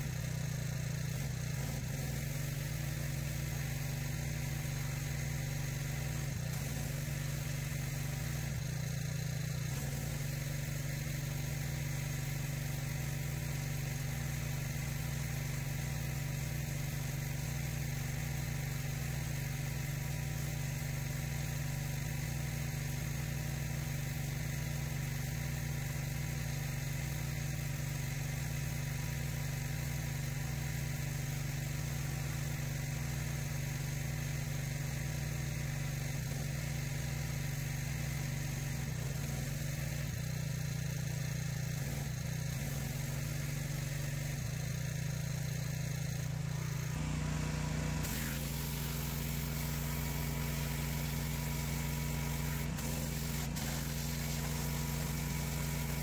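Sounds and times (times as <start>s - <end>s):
high-pressure spray hissing: 0.0s - 56.0s
pressure washer engine running: 0.0s - 56.0s.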